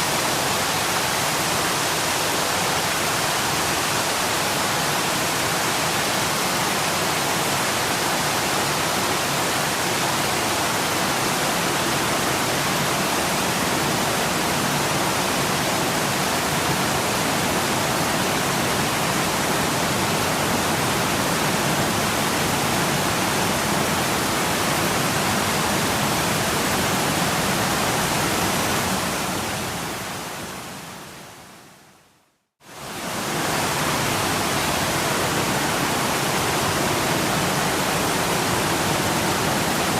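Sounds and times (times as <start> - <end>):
waterfall rushing: 0.0 - 31.2, 32.7 - 39.9.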